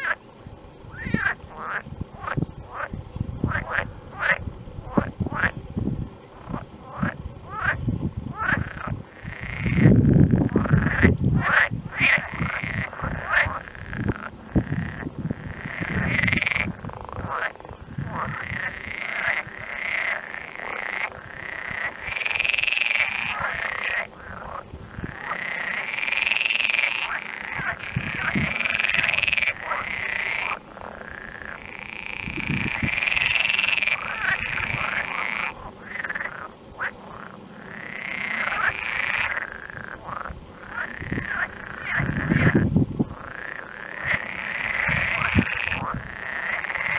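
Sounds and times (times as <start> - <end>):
frogs croaking: 0.0 - 0.2, 0.9 - 5.6, 6.2 - 46.9.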